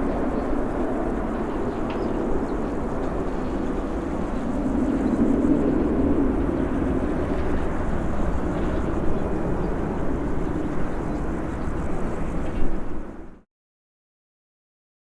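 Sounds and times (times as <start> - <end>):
jet engine rumble: 0.0 - 13.4.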